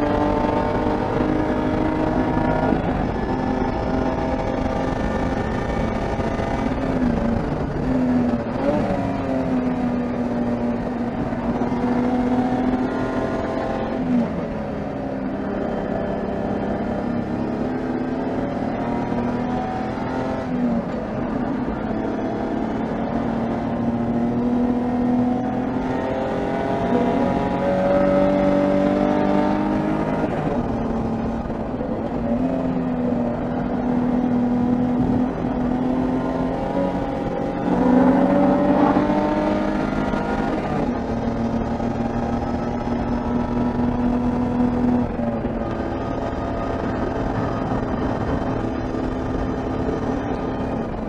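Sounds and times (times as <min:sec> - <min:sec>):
race car engine revving: 0:00.0 - 0:14.6, 0:15.2 - 0:51.0.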